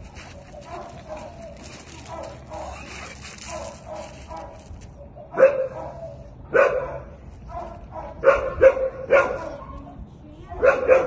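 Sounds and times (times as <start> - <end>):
dog barking: 0.6 - 4.6, 5.2 - 9.8, 10.5 - 11.0.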